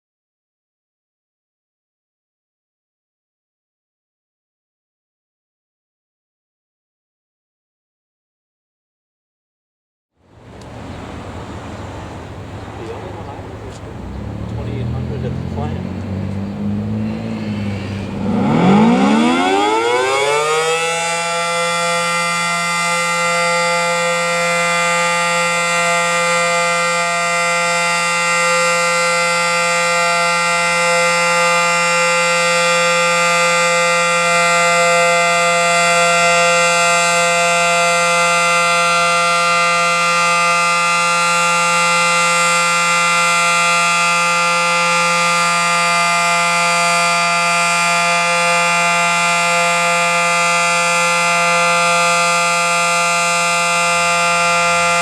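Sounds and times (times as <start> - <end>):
dual-tone siren steady chord: 10.3 - 55.0.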